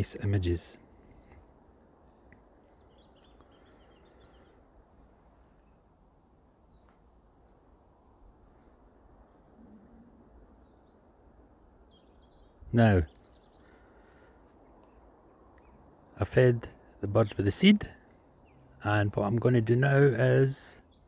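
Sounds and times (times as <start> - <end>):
distant birds chirping: 0.0 - 21.0
faint background hiss: 0.0 - 21.0.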